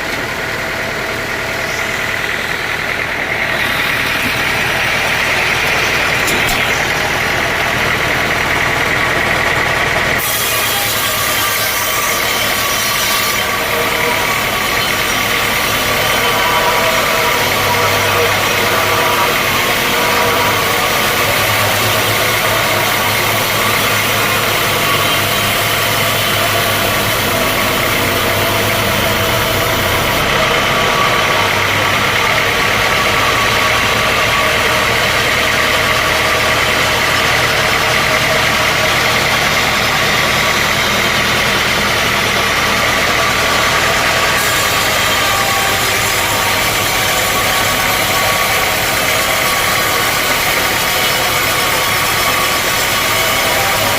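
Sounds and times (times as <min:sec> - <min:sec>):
sawmill machinery drone: 0:00.0 - 0:53.9.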